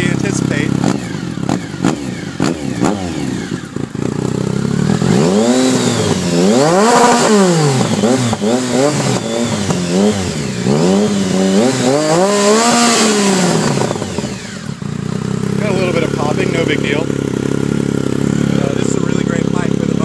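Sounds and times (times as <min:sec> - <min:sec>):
exhaust popping: 0:00.0 - 0:20.0
motorcycle engine revving: 0:00.0 - 0:20.0.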